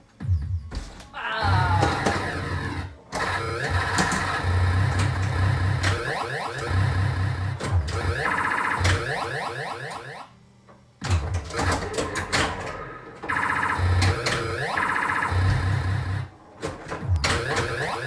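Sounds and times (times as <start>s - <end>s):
electronic pinball game sounds: 1.8s - 18.0s.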